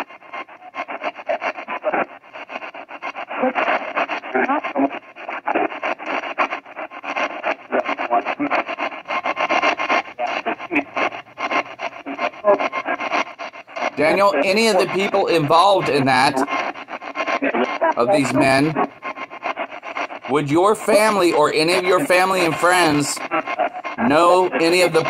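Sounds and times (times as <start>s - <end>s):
radio static sweeping through stations: 3.4s - 25.0s.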